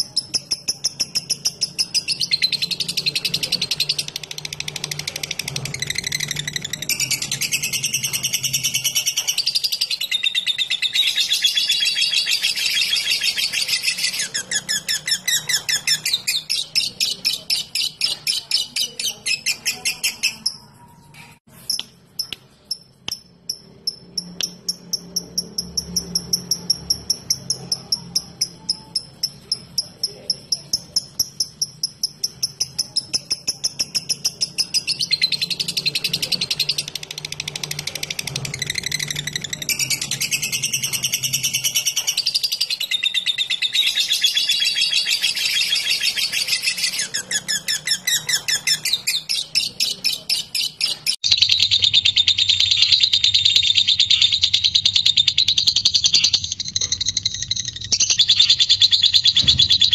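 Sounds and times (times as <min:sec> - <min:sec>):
sharp ticking chirps: 0:00.0 - 0:20.7, 0:21.5 - 0:59.9
lovebird chattering: 0:00.0 - 0:59.9.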